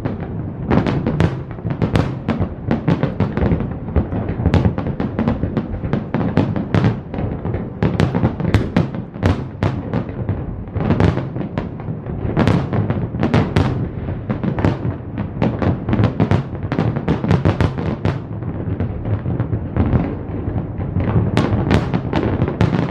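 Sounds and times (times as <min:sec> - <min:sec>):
fireworks bangs and crackles: 0:00.0 - 0:22.9
fireworks low booms: 0:00.0 - 0:22.9.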